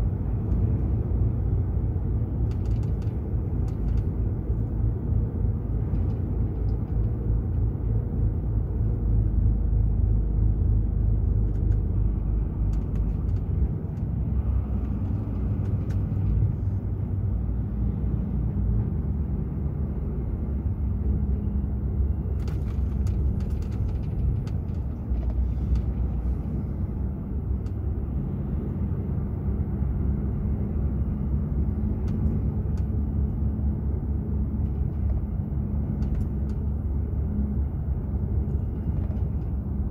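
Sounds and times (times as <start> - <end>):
diesel truck engine droning: 0.0 - 39.9
road rumble: 0.0 - 39.9.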